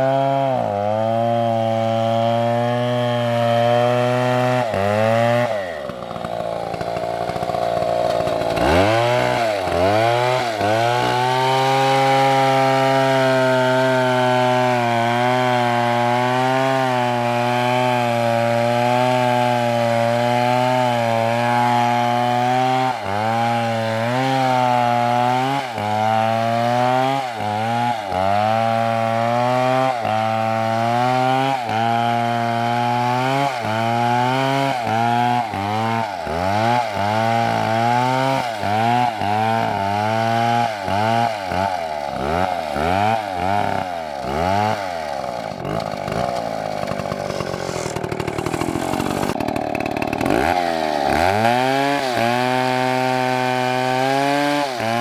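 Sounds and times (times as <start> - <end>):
chainsaw cutting into tree trunk: 0.0 - 55.0.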